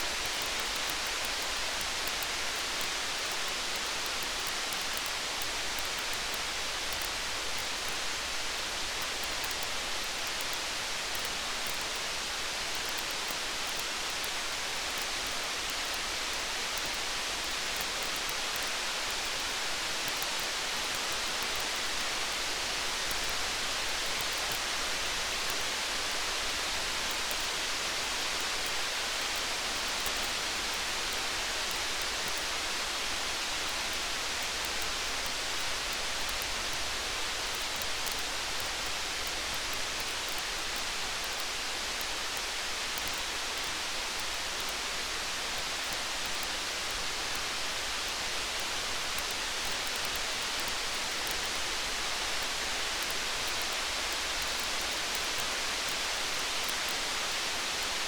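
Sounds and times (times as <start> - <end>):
faint ticks and crackles: 0.0 - 58.0
steady rain hiss: 0.0 - 58.0.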